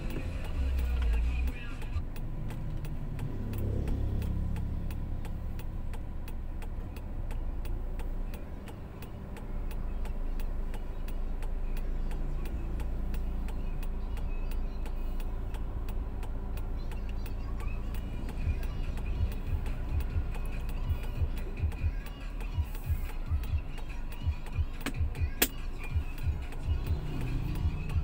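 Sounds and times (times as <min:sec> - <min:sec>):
rapid even ticking: 0:00.0 - 0:28.0.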